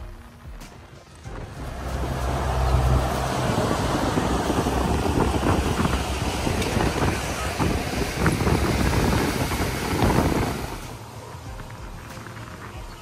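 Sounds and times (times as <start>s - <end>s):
outboard motors running: 0.0s - 13.0s
wind and water rushing: 1.2s - 13.0s.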